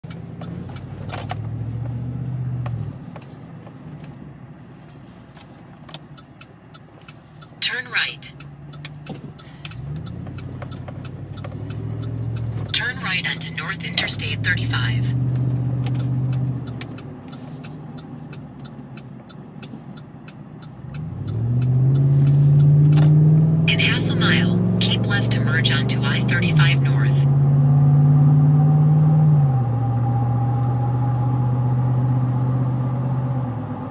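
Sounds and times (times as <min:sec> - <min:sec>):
turn signal ticking: 0:00.0 - 0:04.6, 0:05.4 - 0:27.9
engine droning under load: 0:00.0 - 0:33.9.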